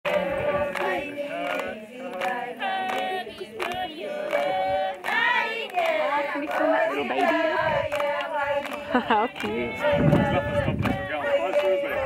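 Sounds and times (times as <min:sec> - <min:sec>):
women singing in chorus: 0:00.1 - 0:12.0.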